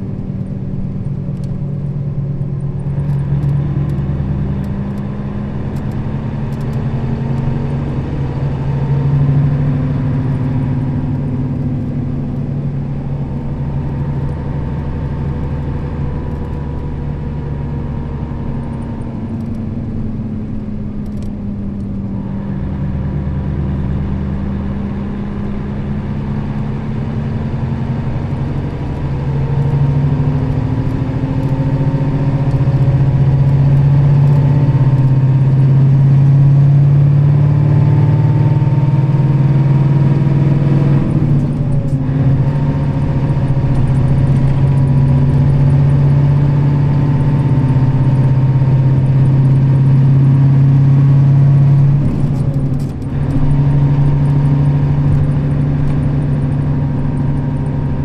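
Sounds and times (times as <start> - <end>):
bus diesel engine pulling: 0.0 - 58.0.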